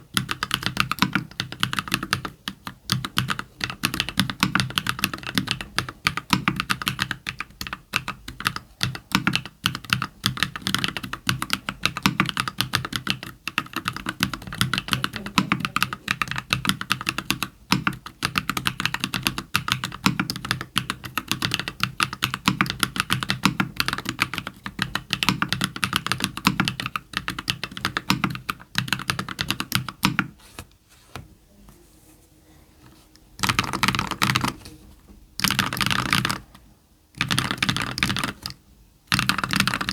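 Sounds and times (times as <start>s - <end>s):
mechanical keyboard typing: 0.0s - 30.4s, 33.4s - 34.8s, 35.4s - 36.6s, 37.2s - 39.9s.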